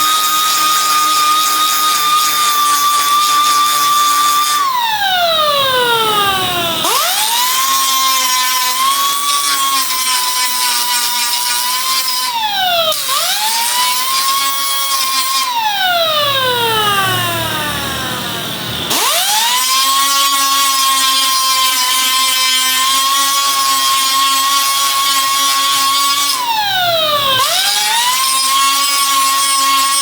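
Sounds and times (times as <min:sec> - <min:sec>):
power grinder whining: 0:00.0 - 0:30.0.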